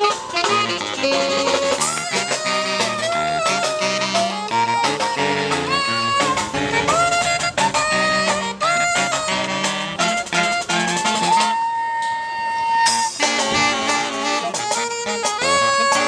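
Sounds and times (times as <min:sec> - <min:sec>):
bass line: 0:00.0 - 0:11.5, 0:12.9 - 0:16.0
steady beat: 0:00.0 - 0:11.6, 0:12.9 - 0:16.0
sliding lead melody: 0:00.0 - 0:16.0.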